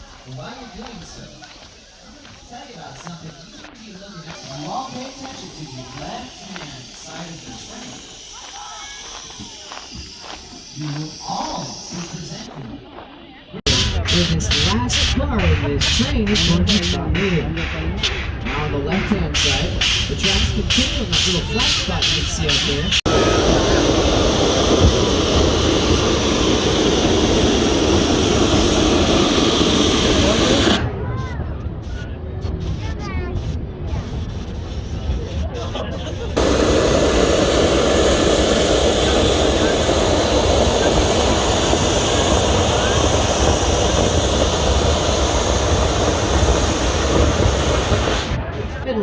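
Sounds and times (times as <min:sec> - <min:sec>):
steam train rushing rumble: 0:00.0 - 0:12.7, 0:13.6 - 0:49.0.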